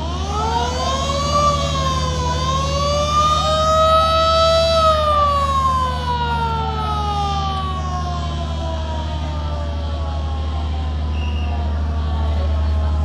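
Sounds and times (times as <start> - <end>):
boat siren horn: 0.0 - 12.0
diesel engines idling: 0.0 - 13.0.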